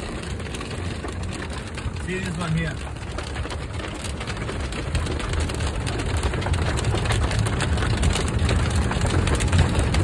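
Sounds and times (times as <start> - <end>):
hail and rain drumming on car roof: 0.0 - 10.0.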